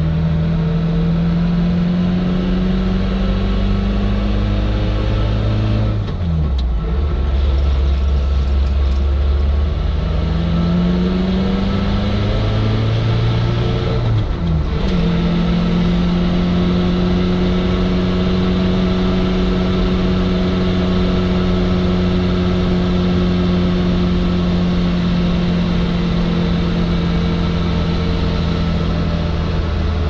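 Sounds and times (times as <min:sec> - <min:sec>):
car engine droning in cab: 0:00.0 - 0:30.0.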